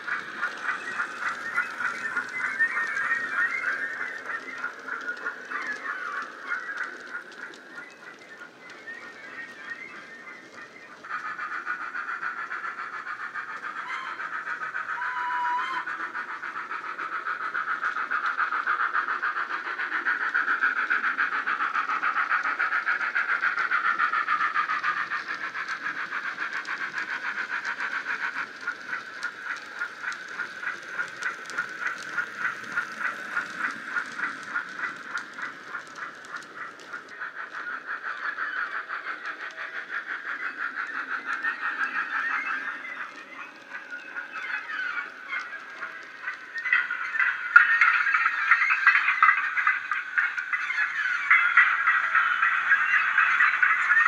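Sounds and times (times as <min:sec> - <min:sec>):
steam hiss: 0:00.0 - 0:54.0
steam locomotive chuffing: 0:00.0 - 0:54.0.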